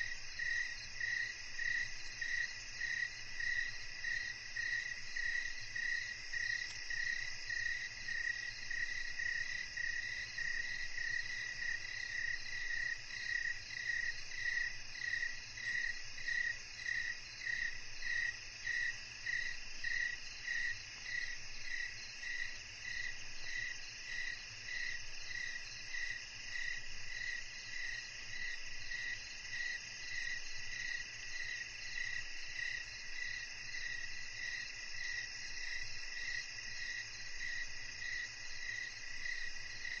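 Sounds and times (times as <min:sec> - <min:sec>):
cricket chirping: 0:00.0 - 0:40.0.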